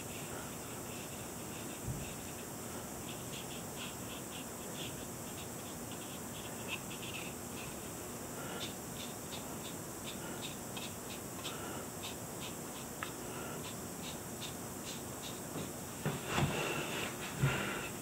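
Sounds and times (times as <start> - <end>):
paintbrush dabbing on paper: 0.0 - 7.9, 8.5 - 16.2
steady room hiss: 0.0 - 18.0.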